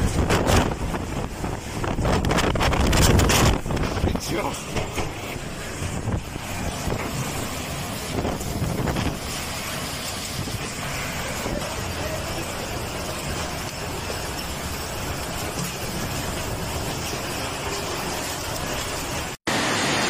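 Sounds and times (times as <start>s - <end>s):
gusting wind: 0.0s - 20.0s
heavy rain: 0.0s - 20.0s.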